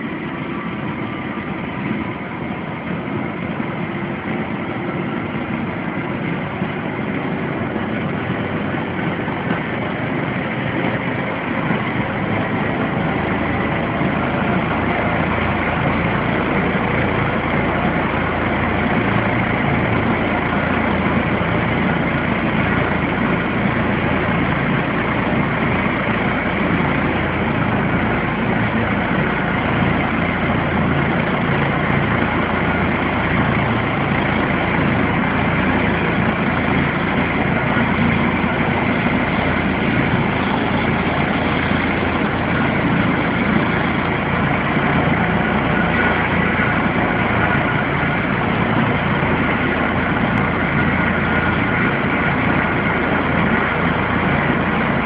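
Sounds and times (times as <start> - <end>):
helicopter engines and rotor: 0.0 - 55.0.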